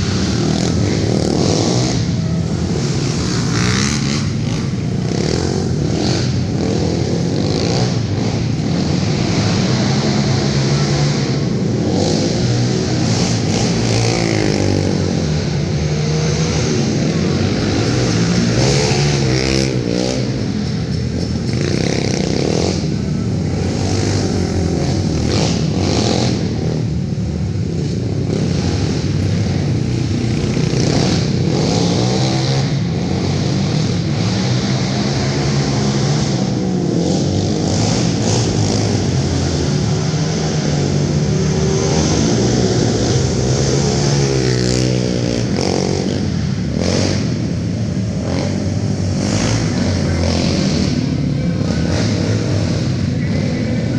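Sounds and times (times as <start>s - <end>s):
quad engines revving: 0.0s - 53.9s.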